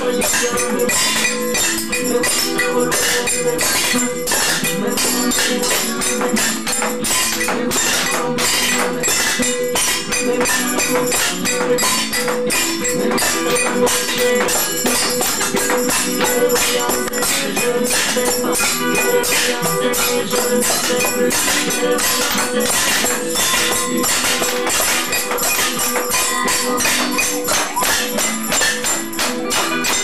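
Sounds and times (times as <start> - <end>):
kitchen utensils clattering rhythmically: 0.0 - 30.0.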